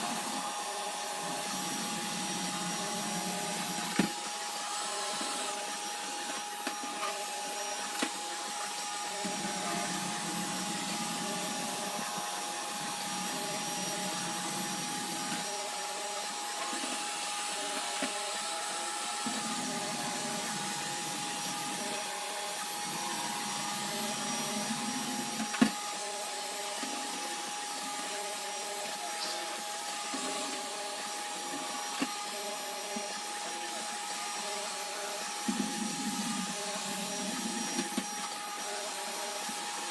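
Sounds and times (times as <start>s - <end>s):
robot vacuum whining: 0.0s - 39.9s.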